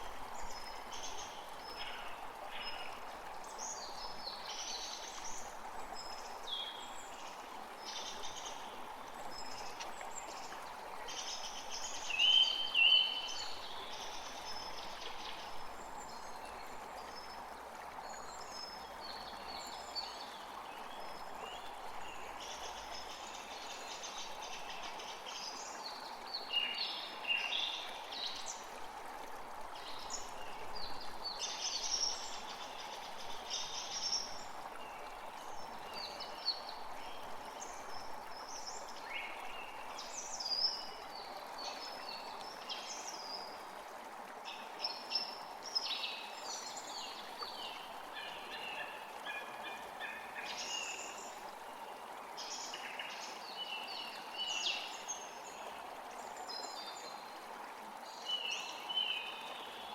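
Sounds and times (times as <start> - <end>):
forest creek running: 0.0 - 59.9.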